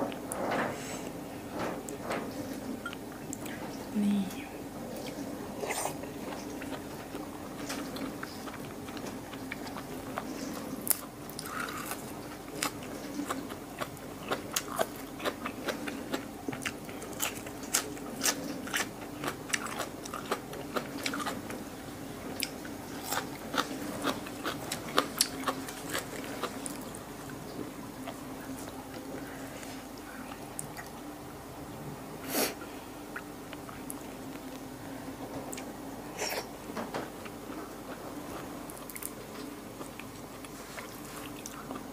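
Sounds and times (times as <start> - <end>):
dishwasher hum: 0.0 - 41.9.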